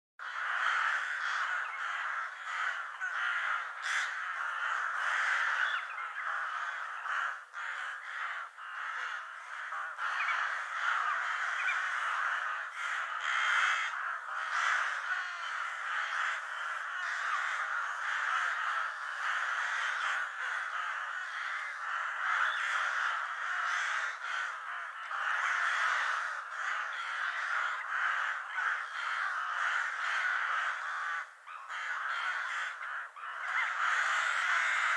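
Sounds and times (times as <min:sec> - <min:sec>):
crows cawing: 0:00.2 - 0:34.9.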